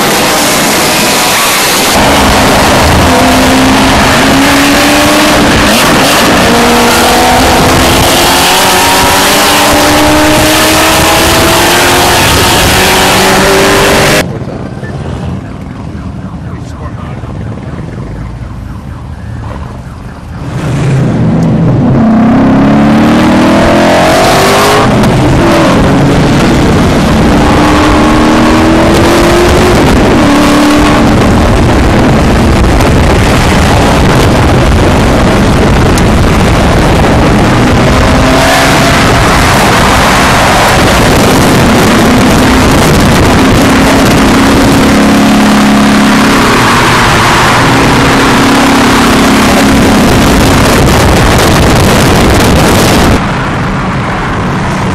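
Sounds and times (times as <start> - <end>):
wind rushing: 0.0 - 15.4, 17.4 - 54.9
sports car engine at full throttle: 0.0 - 54.9.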